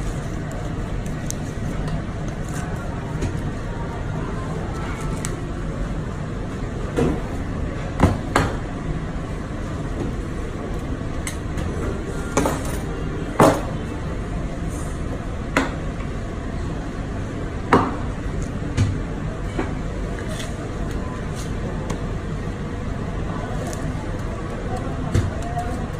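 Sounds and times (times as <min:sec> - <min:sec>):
steady background noise: 0:00.0 - 0:25.9.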